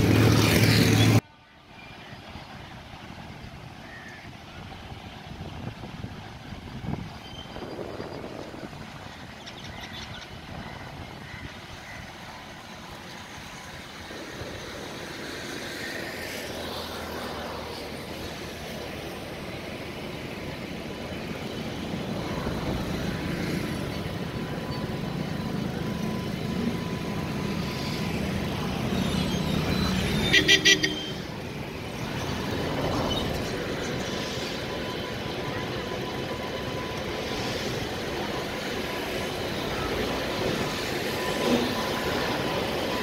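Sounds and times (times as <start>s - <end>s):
electric locomotive running: 0.0s - 43.0s.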